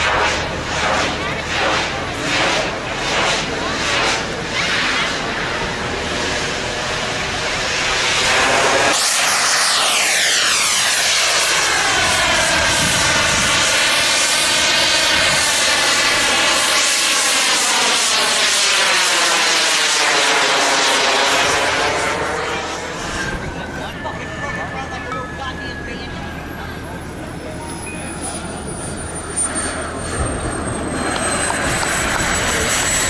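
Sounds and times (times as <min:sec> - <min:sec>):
model airplane engine: 0:00.0 - 0:33.0.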